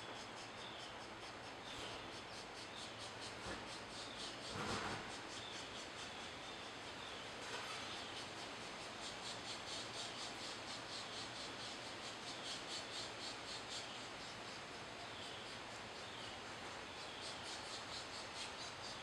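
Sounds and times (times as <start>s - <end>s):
steady hiss: 0.0s - 19.0s
woodpecker nestlings begging calls: 0.1s - 19.0s.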